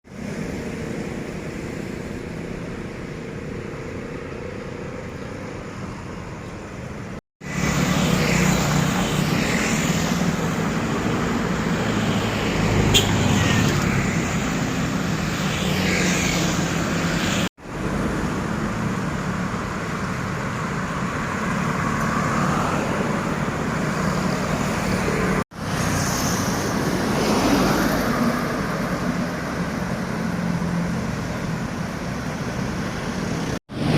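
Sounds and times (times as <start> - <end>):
road traffic with passing engines: 0.0 - 33.9.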